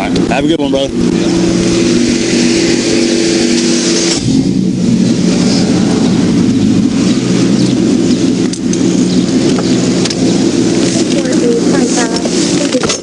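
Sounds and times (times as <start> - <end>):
car engine idling: 0.0 - 13.0
wind noise on microphone: 0.0 - 13.0.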